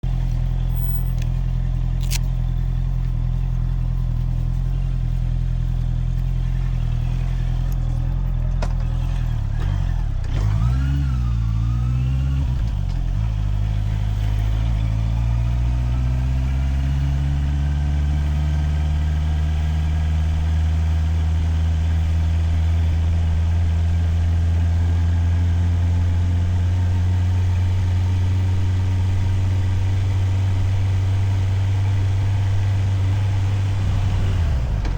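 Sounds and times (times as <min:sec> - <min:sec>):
motorcycle engine: 0:00.0 - 0:34.9.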